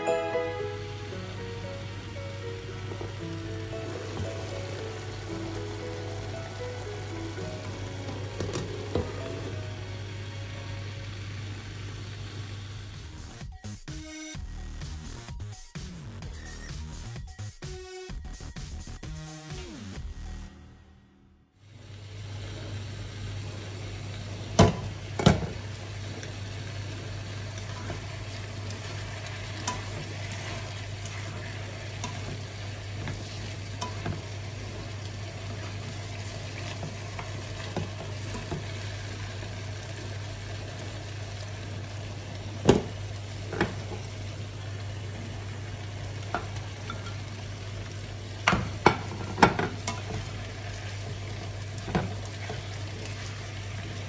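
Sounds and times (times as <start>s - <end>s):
vegetables sizzling in a frying pan: 0.0s - 13.4s, 21.7s - 54.0s.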